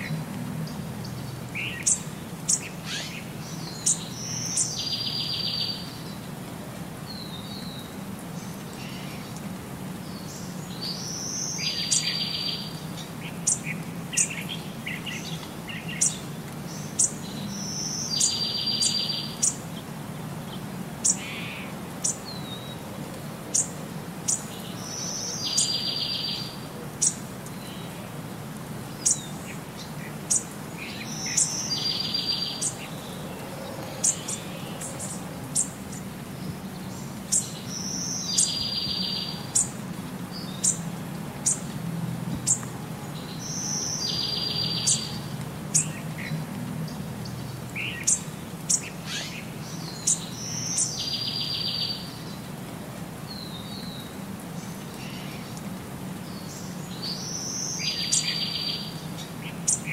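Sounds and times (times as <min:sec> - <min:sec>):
birds chirping: 0:00.0 - 0:06.3, 0:07.1 - 0:28.2, 0:28.8 - 0:52.6, 0:53.2 - 0:59.9.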